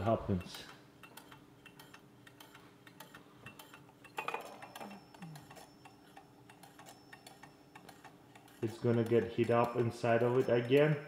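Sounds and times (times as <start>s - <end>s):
faint light mechanical ticking: 0.0s - 11.0s.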